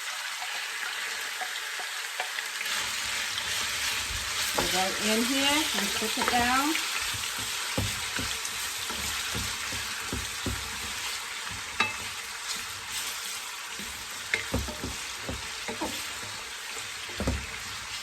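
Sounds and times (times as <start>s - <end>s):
meat and garlic sizzling in oil: 0.0s - 18.0s.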